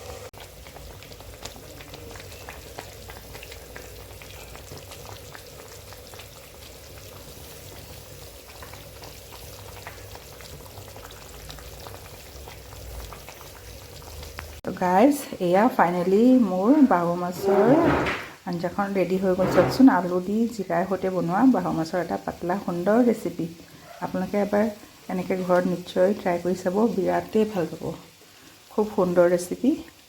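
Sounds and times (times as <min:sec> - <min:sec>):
curry bubbling in a pan: 0:00.0 - 0:17.4, 0:18.4 - 0:30.0.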